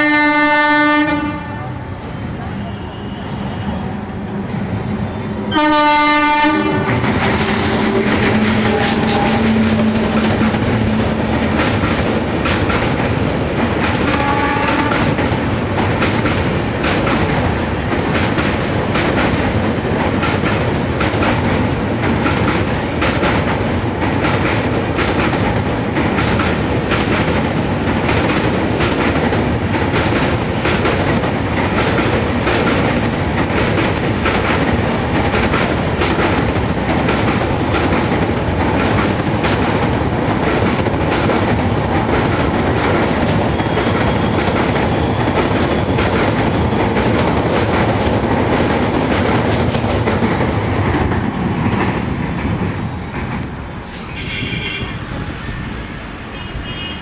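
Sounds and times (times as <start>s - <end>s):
train wheels clattering over rail joints: 6.6s - 54.2s.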